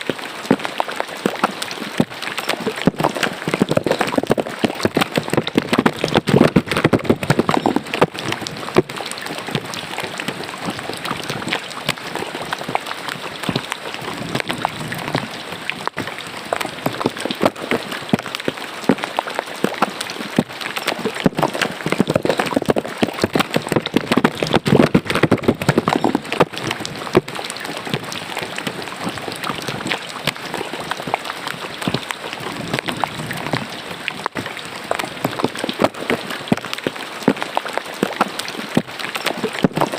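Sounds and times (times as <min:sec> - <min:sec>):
rain pattering: 0:00.0 - 0:39.9
water running in a drain: 0:00.0 - 0:39.9.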